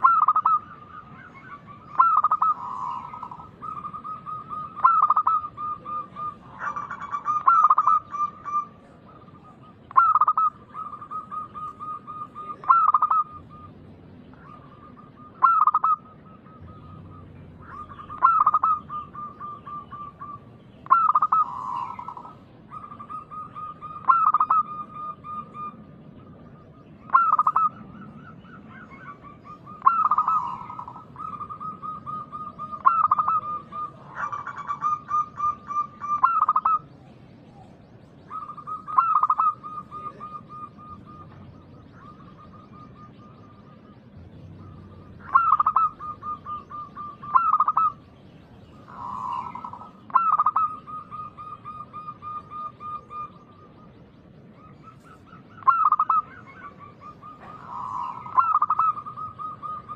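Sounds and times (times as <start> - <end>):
dove cooing: 0.0 - 53.9, 54.5 - 59.9.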